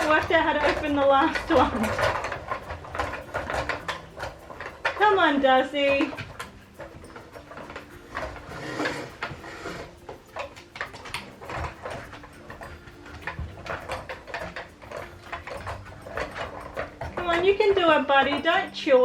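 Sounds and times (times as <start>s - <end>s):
puzzle lids clicking and knocking: 0.0s - 19.0s.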